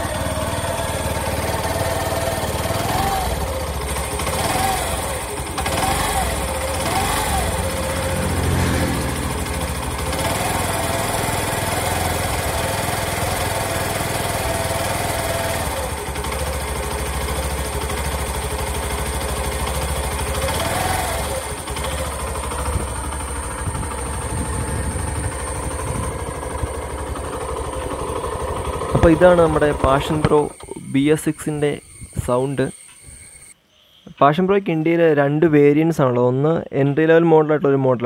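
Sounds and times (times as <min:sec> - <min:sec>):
motorcycle engine idling: 0:00.0 - 0:33.6.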